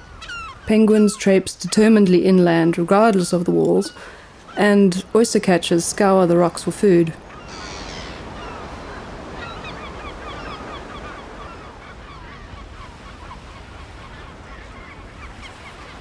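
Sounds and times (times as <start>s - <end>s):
seabirds calling: 0.0s - 16.0s
surf: 0.0s - 16.0s
wind: 0.0s - 16.0s.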